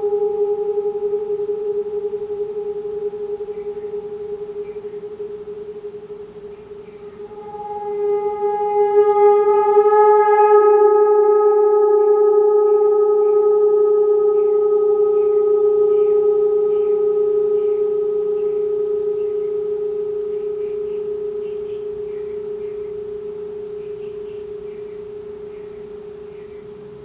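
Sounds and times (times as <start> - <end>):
singing bowl ringing: 0.0 - 27.0.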